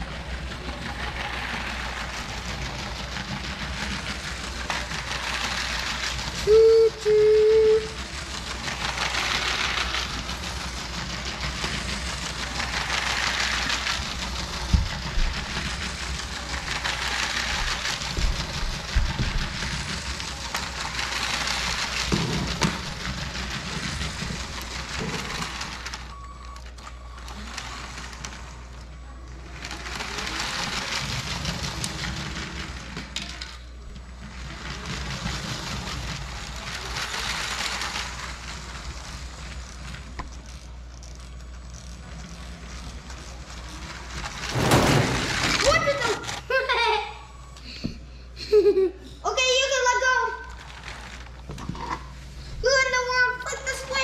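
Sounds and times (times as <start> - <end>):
toy train motor and wheels: 0.0 - 47.8, 48.4 - 54.0.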